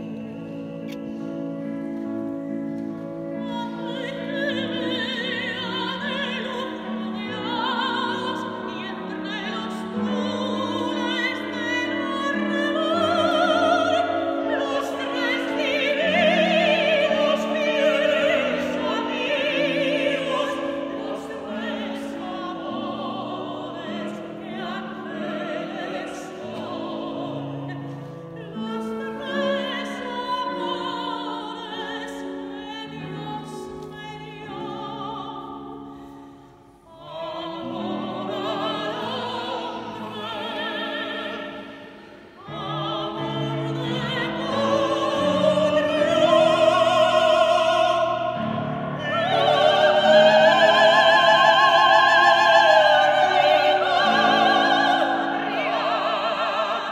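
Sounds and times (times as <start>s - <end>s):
grand piano: 0.0s - 56.9s
operatic duet singing: 3.4s - 56.9s.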